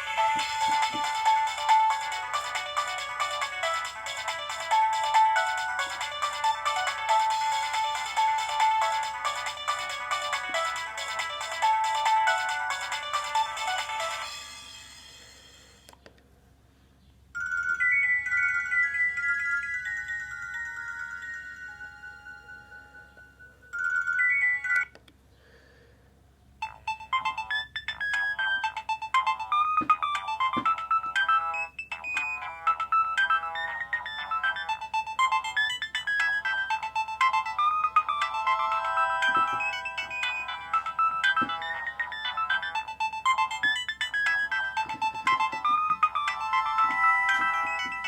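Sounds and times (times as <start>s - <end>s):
mobile phone ringtone melody: 0.0s - 15.8s, 17.4s - 25.0s, 26.6s - 48.0s.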